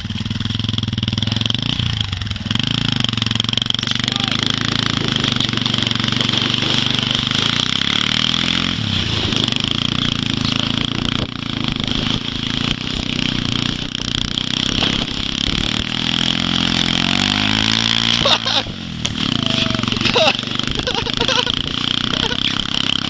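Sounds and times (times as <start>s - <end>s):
quad bike engine revving: 0.0s - 23.0s.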